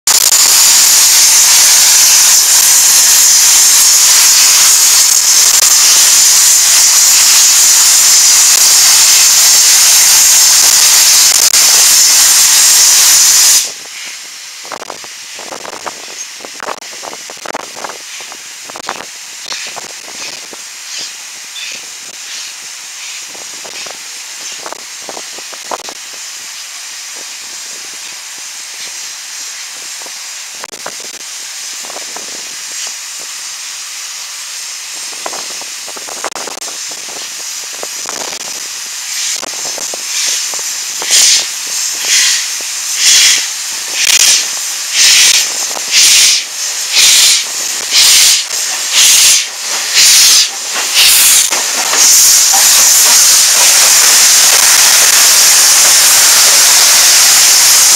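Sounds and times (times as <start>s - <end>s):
loud bursts of steam: 0.1s - 57.9s
steam locomotive hissing: 0.1s - 57.9s.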